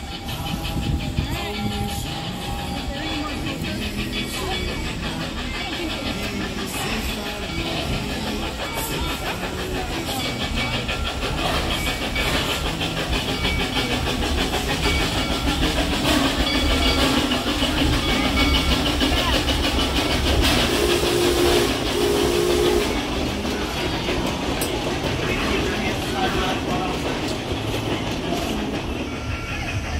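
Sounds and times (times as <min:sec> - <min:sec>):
steam train passing: 0:00.0 - 0:29.9.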